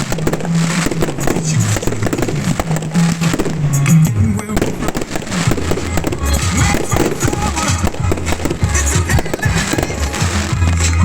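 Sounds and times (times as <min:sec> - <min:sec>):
fireworks crackling and banging: 0:00.0 - 0:11.0
music playing: 0:00.0 - 0:11.0.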